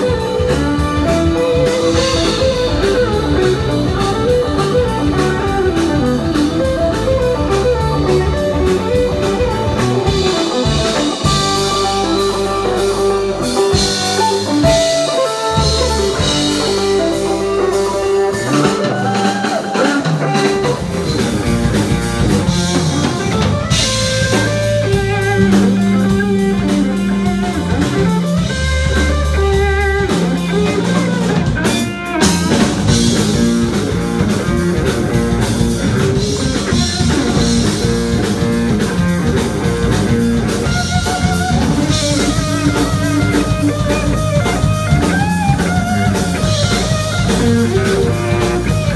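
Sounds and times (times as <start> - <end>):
electric guitar melodic lines: 0.0 - 48.9
live rock blues band: 0.0 - 48.9.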